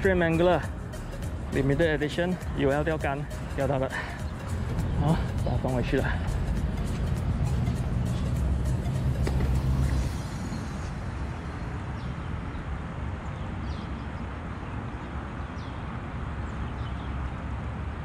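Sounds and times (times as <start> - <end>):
distant road traffic rumble: 0.0 - 18.0.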